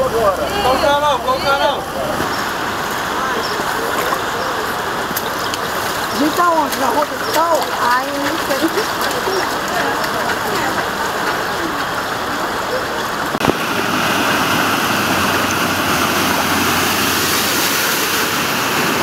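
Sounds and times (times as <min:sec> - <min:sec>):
car ploughing through flood water: 0:00.0 - 0:19.0
flood water rushing: 0:00.0 - 0:19.0.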